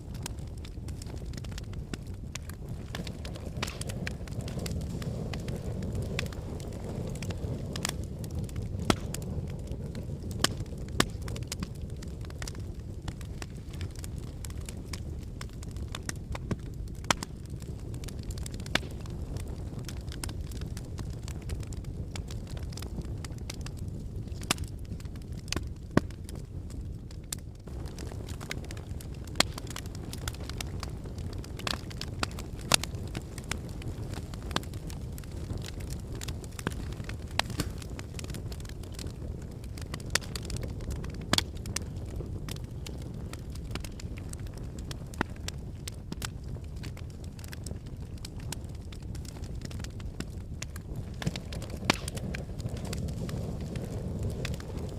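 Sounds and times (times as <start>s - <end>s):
burning logs crackling and popping: 0.0s - 54.9s
fire flames rumbling: 0.0s - 54.9s.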